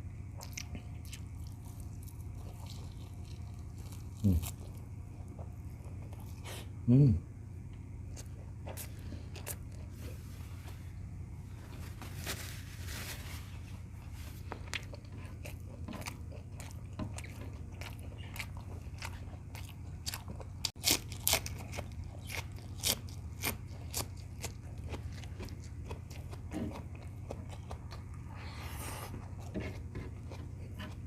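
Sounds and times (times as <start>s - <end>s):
person chewing food: 0.3s - 6.7s, 7.8s - 10.4s, 14.0s - 31.0s.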